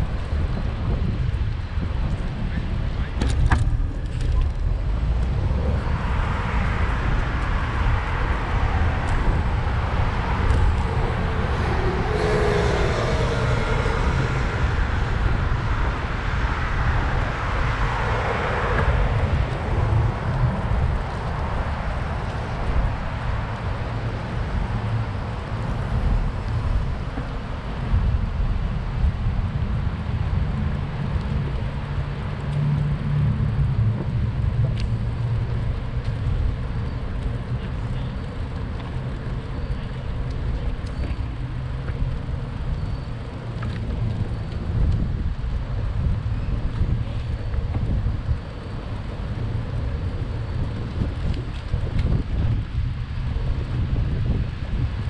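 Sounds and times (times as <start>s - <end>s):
road traffic noise: 0.0s - 55.0s
wind rumble on microphone: 0.0s - 55.0s.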